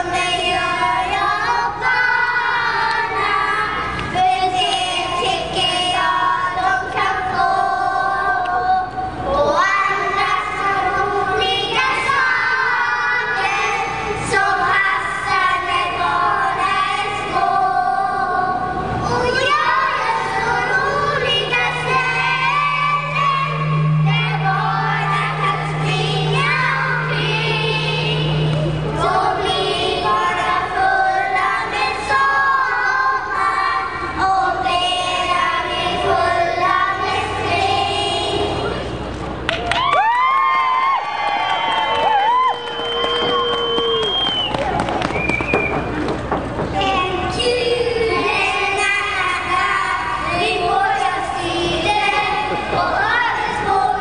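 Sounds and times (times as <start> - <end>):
children's choir singing: 0.0 - 39.0, 45.7 - 54.0.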